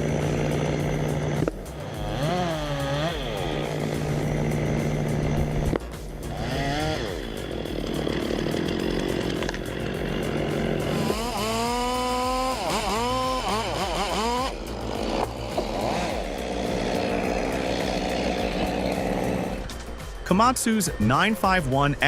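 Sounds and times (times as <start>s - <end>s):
chainsaw running at high revs: 0.0s - 19.8s.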